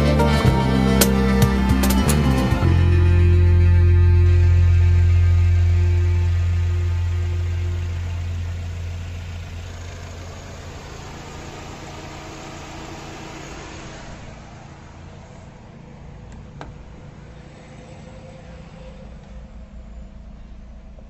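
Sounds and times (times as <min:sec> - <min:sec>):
car engine idling: 0:00.0 - 0:21.0
low hum: 0:00.0 - 0:21.0.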